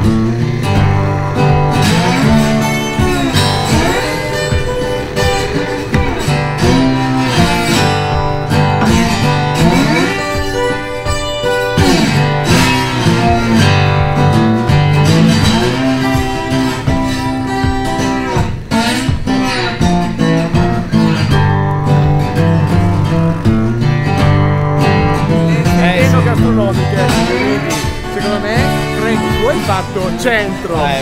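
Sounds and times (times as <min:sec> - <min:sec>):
guitar music with sliding notes: 0:00.0 - 0:31.0.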